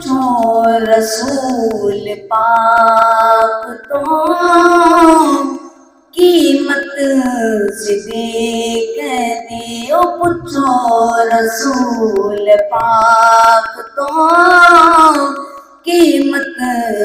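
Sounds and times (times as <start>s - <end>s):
boy singing into microphone: 0.0s - 17.0s.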